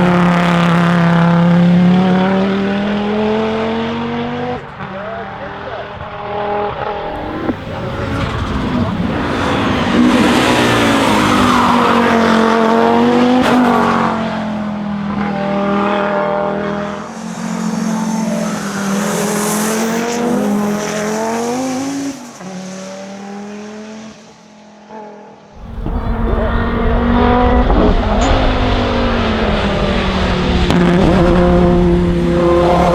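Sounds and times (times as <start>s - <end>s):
race car engine at full throttle: 0.0s - 32.9s.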